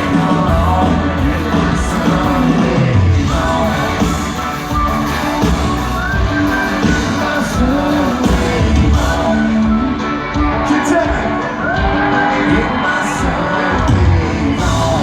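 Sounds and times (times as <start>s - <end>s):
lead singer's voice: 0.0s - 15.0s
live country-pop band: 0.0s - 15.0s.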